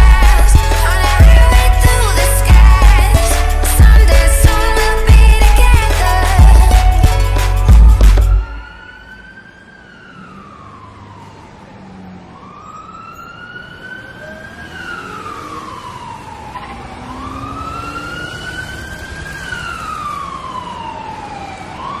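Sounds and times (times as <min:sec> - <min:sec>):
emergency siren wailing: 0:00.0 - 0:22.0.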